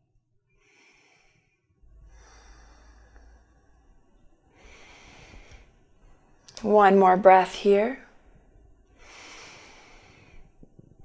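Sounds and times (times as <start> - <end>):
person breathing slowly: 0.5 - 6.4, 8.1 - 11.0
low steady hum: 1.7 - 11.0.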